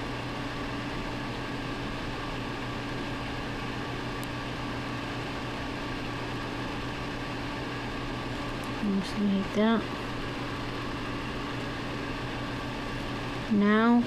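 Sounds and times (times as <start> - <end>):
machine hum with drone and hiss: 0.0 - 14.0.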